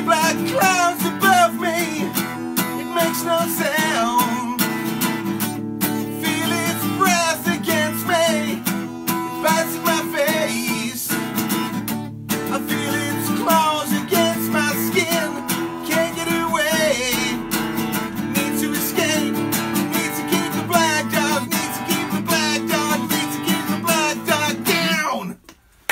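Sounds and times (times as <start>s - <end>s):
man singing: 0.0s - 4.8s, 5.9s - 11.4s, 12.4s - 25.4s
acoustic guitar strumming: 0.0s - 25.4s.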